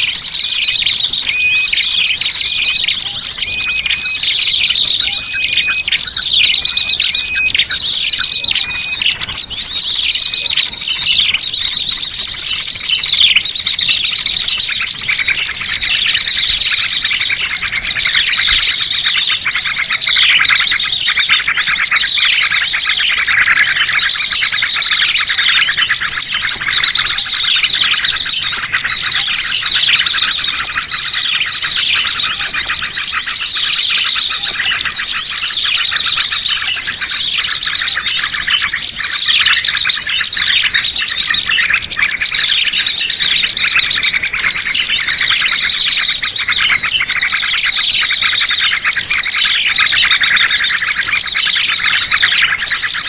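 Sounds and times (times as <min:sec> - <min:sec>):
small birds chirping and twittering: 0:00.0 - 0:53.0.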